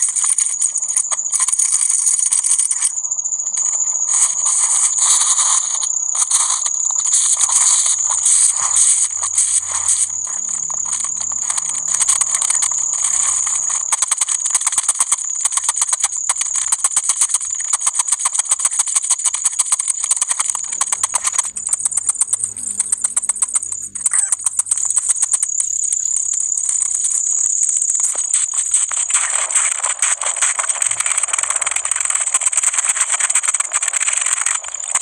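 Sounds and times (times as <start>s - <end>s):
high-pitched buzz with clicking: 0.0s - 35.0s.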